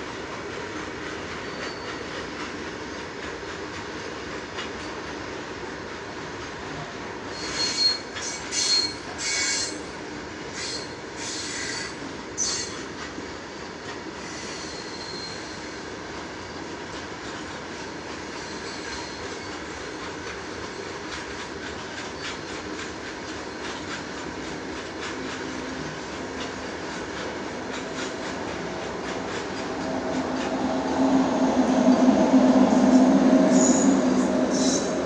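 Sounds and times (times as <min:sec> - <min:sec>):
freight train rumbling: 0:00.0 - 0:35.0
train wheels squealing on rails: 0:00.0 - 0:35.0.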